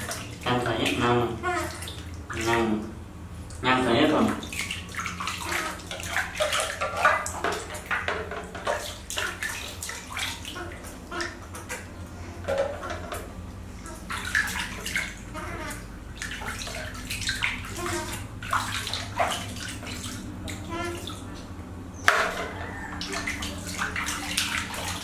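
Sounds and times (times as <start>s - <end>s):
water splashing in a plastic basin: 0.0s - 25.0s.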